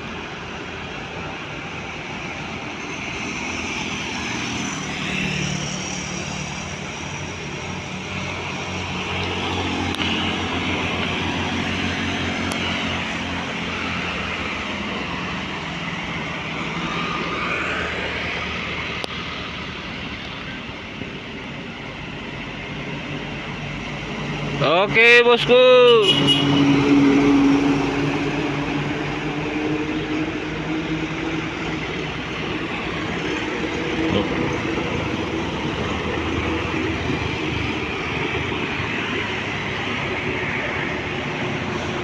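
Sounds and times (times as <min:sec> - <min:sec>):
heavy vehicle engines droning: 0:00.0 - 0:42.0.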